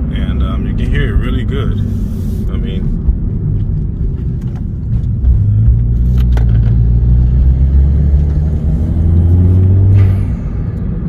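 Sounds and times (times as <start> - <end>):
intake and turbo noise: 0.0 - 11.0
turbocharged car engine accelerating: 0.2 - 11.0.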